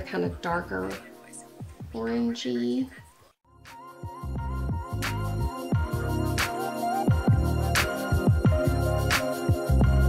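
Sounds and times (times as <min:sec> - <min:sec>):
background music with a beat: 0:00.0 - 0:02.2, 0:03.0 - 0:10.0.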